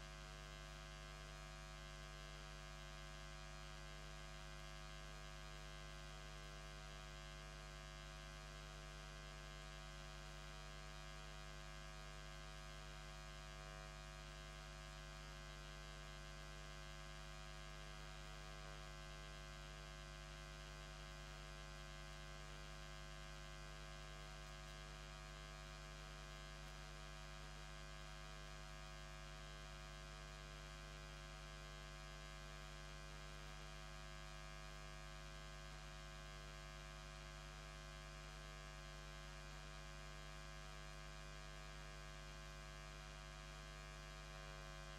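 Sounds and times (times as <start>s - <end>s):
electrical hum with low buzz: 0.0s - 44.9s.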